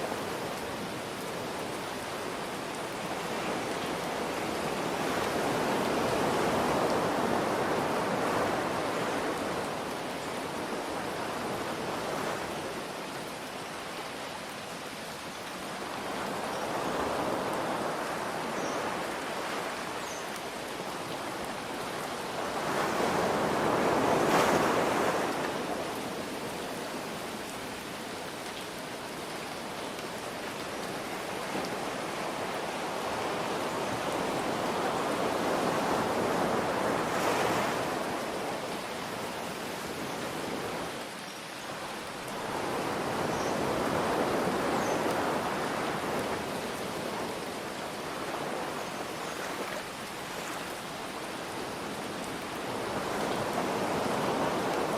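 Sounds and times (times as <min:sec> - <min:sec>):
ocean waves surging: 0:00.0 - 0:13.6, 0:20.6 - 0:27.8, 0:29.5 - 0:54.9
rain hiss: 0:00.0 - 0:54.9.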